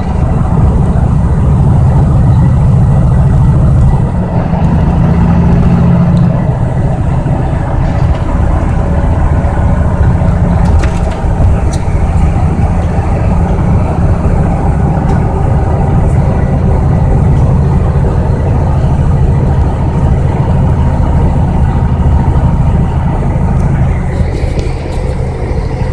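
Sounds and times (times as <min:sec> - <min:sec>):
truck engine droning: 0:00.0 - 0:25.9.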